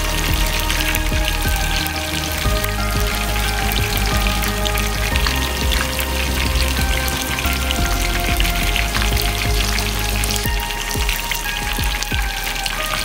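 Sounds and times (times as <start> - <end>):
hot oil sizzling and crackling: 0.0 - 13.0
music playing: 0.0 - 13.0.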